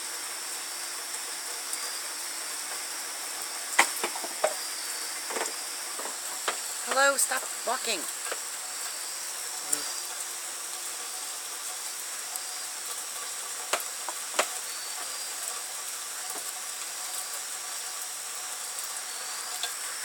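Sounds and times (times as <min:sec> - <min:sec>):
high insect drone: 0:00.0 - 0:20.0
rain hissing: 0:00.0 - 0:20.0.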